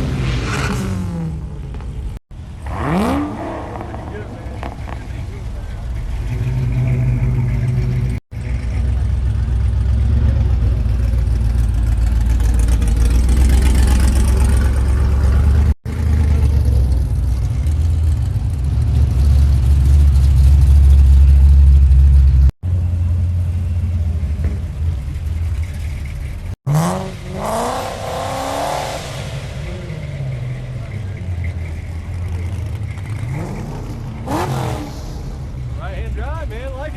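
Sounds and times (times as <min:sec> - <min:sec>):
car engines rumbling: 0:00.0 - 0:36.9
engine revving: 0:02.6 - 0:22.5, 0:26.6 - 0:36.9.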